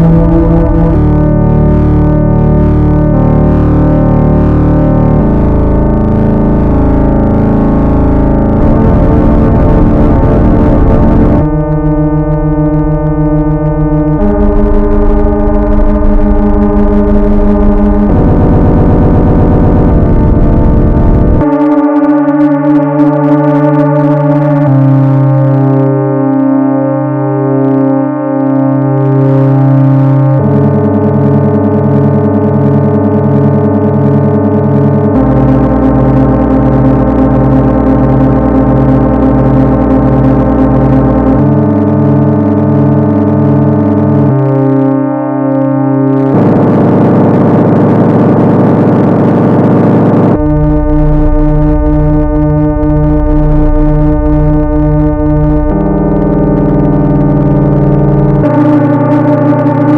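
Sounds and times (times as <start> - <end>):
deep bass tone: 0.0 - 26.0, 28.9 - 44.8, 46.2 - 59.9
distorted noise: 0.0 - 59.9
organ-like synthesized chords: 0.0 - 59.9.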